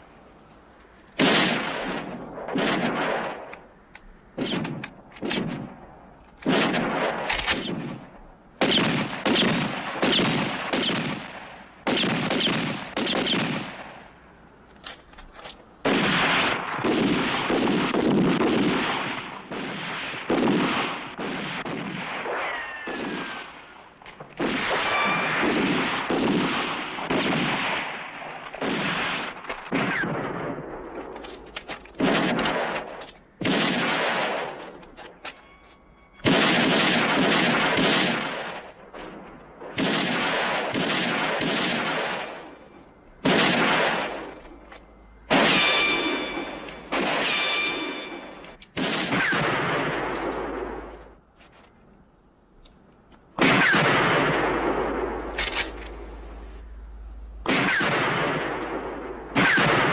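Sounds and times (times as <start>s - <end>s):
echoing gunshots: 1.1s - 14.4s, 15.7s - 51.2s, 53.4s - 59.9s.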